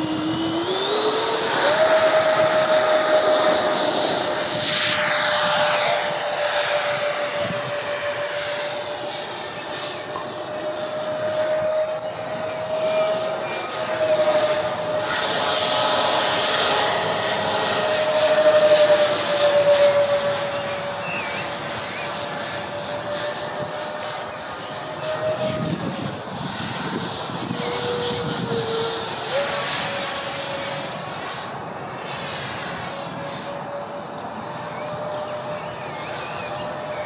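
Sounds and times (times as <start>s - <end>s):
model jet fans whining: 0.0s - 37.0s.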